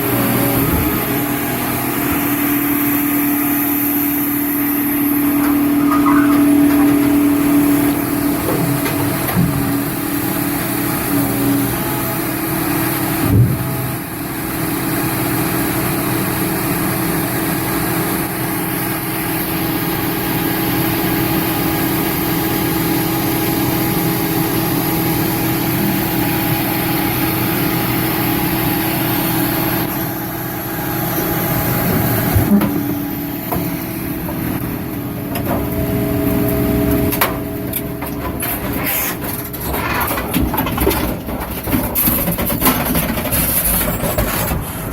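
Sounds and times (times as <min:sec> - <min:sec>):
baler engine running: 0:00.0 - 0:44.9.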